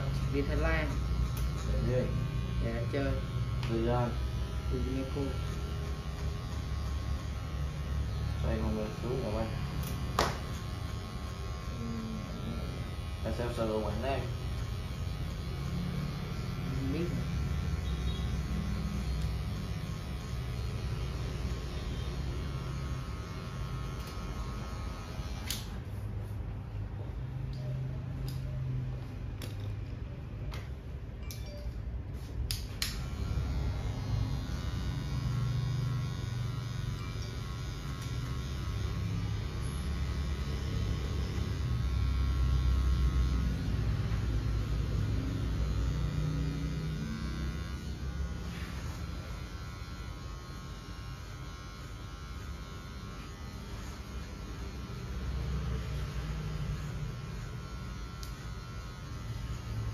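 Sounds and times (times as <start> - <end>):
electric hair clipper buzzing: 0.0 - 30.8, 32.2 - 59.9.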